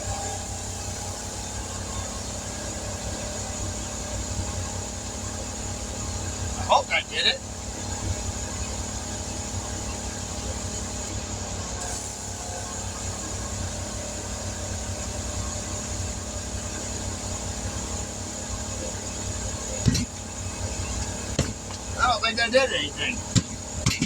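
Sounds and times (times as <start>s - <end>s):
machine hum with low rumble: 0.0s - 24.0s.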